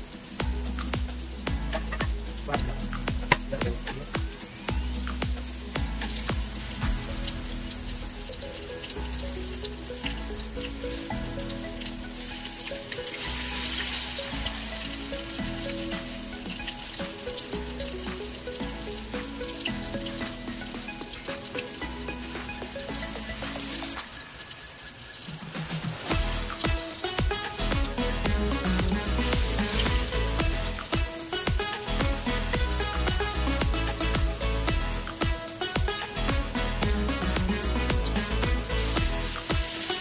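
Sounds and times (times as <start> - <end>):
instrumental background music: 0.0 - 24.3, 25.7 - 40.0
omelette sizzling in oil: 0.0 - 40.0.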